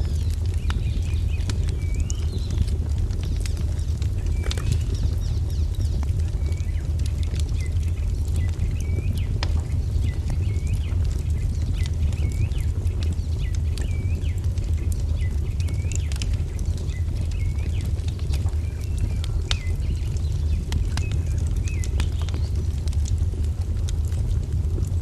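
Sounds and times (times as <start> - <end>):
steady low rumble: 0.0 - 25.0
wood fire crackling and popping: 0.0 - 25.0.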